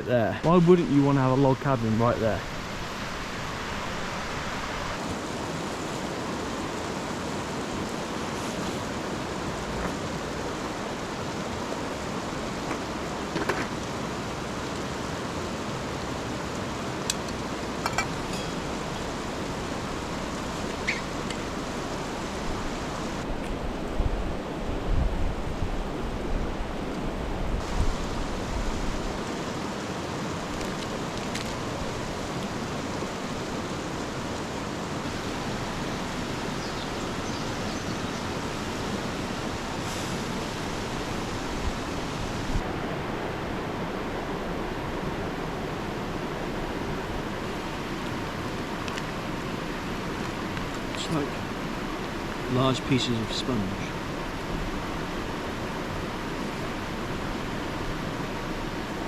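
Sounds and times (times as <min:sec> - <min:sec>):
fast-flowing river water: 0:00.0 - 0:59.0.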